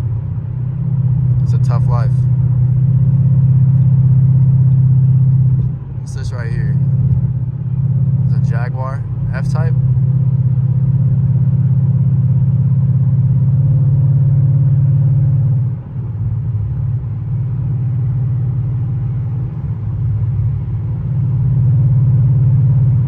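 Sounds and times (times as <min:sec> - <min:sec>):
car engine droning in cabin: 0:00.0 - 0:23.0.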